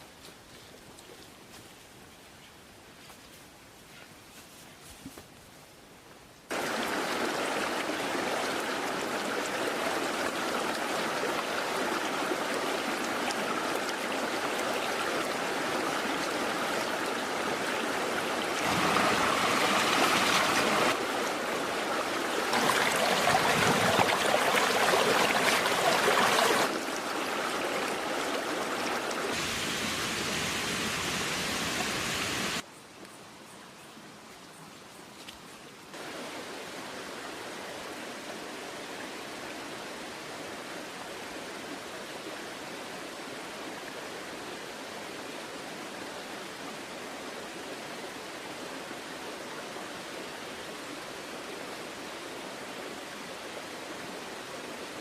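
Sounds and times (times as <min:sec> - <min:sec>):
running water rushing: 0:06.5 - 0:32.6, 0:35.9 - 0:55.0.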